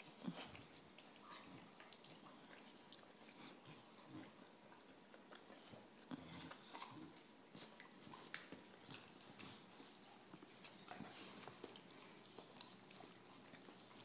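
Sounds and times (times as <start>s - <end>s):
dog licking: 0.0s - 14.0s.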